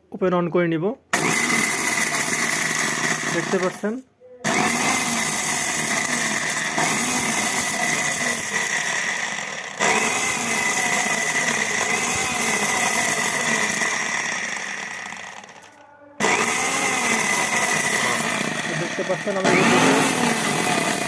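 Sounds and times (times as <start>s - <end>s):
mixer grinder motor whining: 1.2s - 21.0s.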